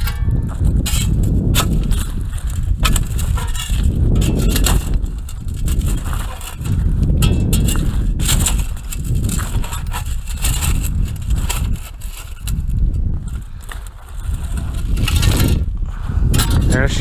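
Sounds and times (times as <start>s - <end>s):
digging in sand and stones: 0.0s - 17.0s
heavy low rumble: 0.0s - 17.0s.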